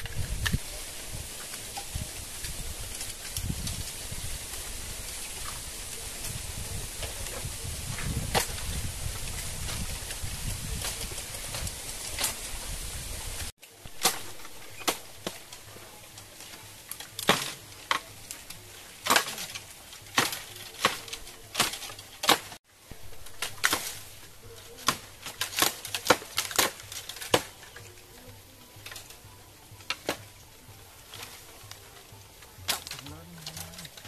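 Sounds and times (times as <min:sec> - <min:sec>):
dry bamboo stems cracking: 0:00.0 - 0:34.0.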